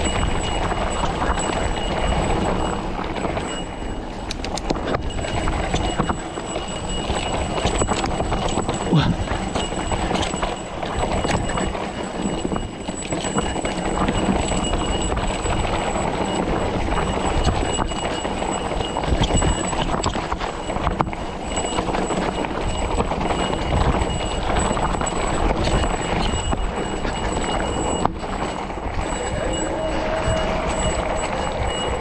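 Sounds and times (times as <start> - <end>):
bike frame rattling: 0.0 - 32.0
tyres rumbling on trail: 0.0 - 32.0.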